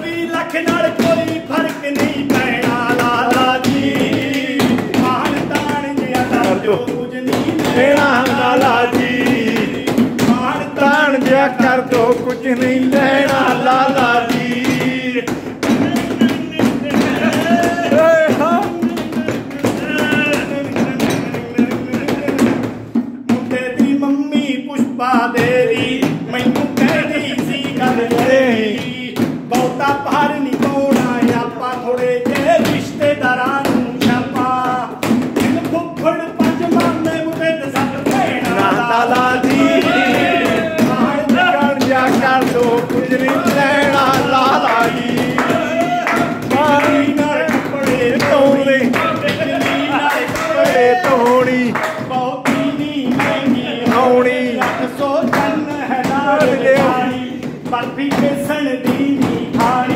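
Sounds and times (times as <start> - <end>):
man singing: 0.0 - 59.9
sharp rhythmic taps: 0.0 - 59.9.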